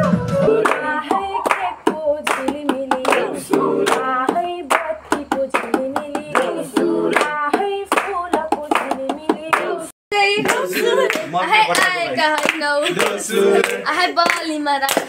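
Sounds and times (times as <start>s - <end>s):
group singing: 0.0s - 14.7s
hands clapping in rhythm: 0.4s - 15.0s.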